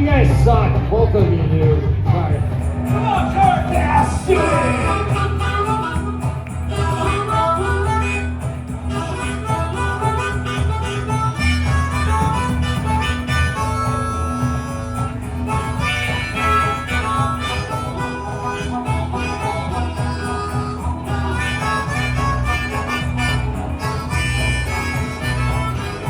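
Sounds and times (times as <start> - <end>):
guitar: 0.0 - 26.0
steady bass line: 0.0 - 26.0
harmonica melody: 2.1 - 26.0.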